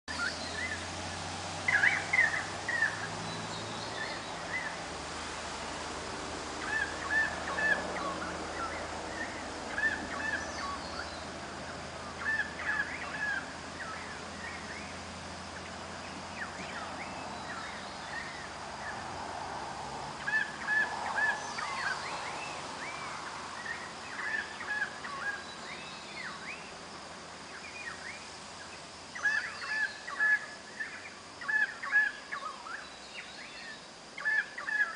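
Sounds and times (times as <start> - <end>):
birds calling: 0.1 - 4.9, 6.5 - 19.1, 20.1 - 26.8, 27.4 - 34.9.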